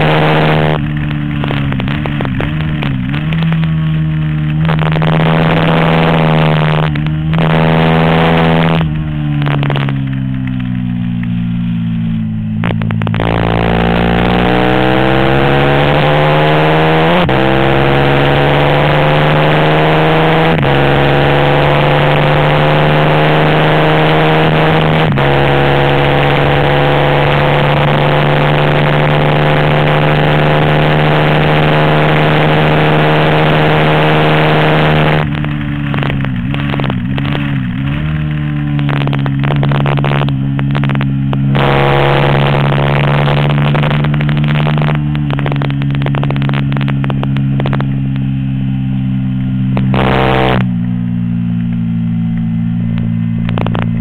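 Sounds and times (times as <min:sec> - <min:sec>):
race motorcycle engine revving: 0:00.0 - 0:54.0.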